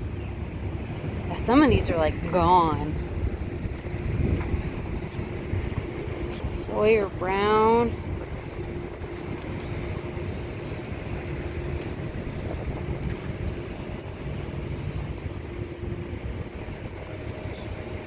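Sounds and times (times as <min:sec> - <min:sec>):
faint steady hum: 0:00.0 - 0:18.0
low outdoor rumble: 0:00.0 - 0:18.0.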